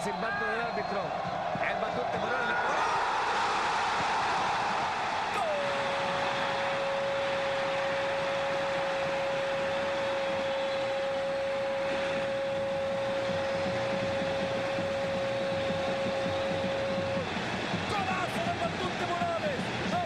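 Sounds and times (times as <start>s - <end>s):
stadium crowd noise: 0.0s - 20.0s.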